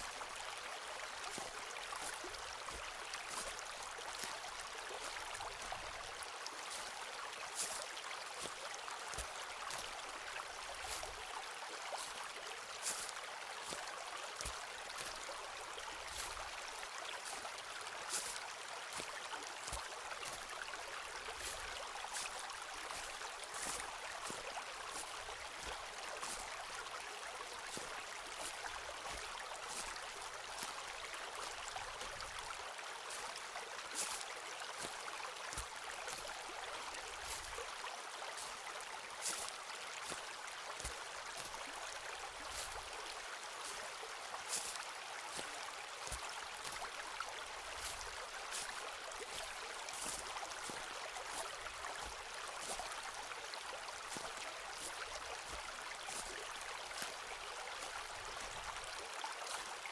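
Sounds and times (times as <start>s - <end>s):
footsteps crunching on forest path: 0.0s - 59.9s
stream rushing: 0.0s - 59.9s.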